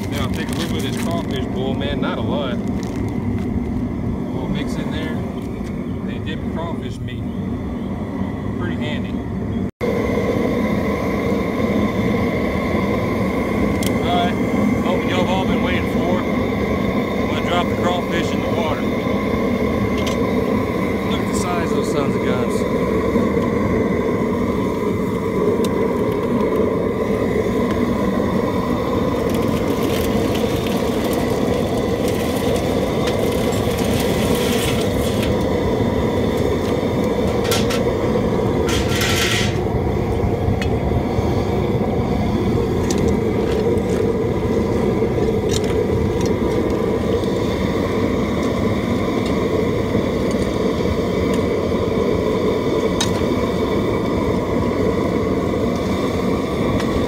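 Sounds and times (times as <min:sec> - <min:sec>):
propane burner roaring: 0:00.0 - 0:57.0.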